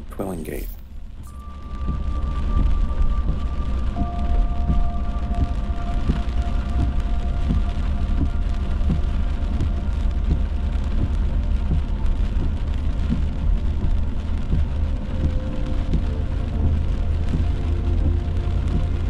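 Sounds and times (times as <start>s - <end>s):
rain on windshield: 1.4s - 19.0s.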